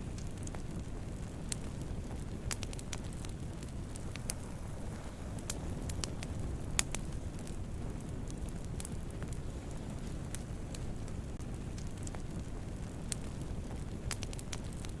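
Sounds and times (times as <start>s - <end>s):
campfire low rumble: 0.0s - 15.0s
fire crackles and pops: 0.0s - 15.0s.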